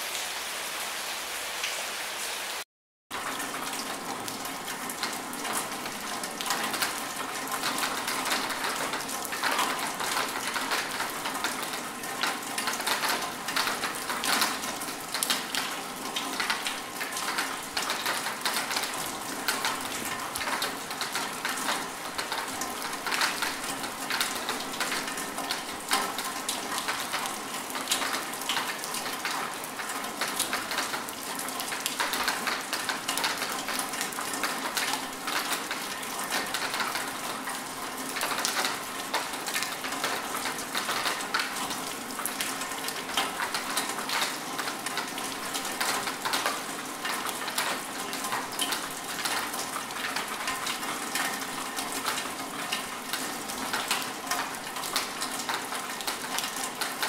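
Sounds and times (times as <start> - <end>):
rain pattering: 3.1 - 57.0.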